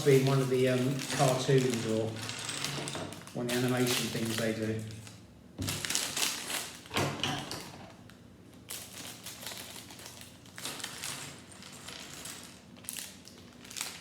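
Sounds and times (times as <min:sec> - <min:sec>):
plastic bags crinkling: 0:00.0 - 0:07.0, 0:07.6 - 0:14.0.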